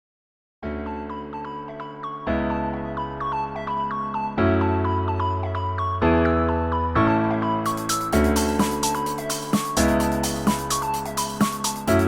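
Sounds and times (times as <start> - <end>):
bright keyboard tune: 0.9 - 12.0.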